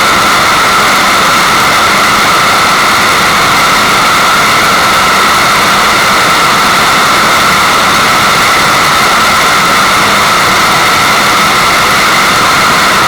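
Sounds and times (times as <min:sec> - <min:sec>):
steady rushing water: 0:00.0 - 0:13.0.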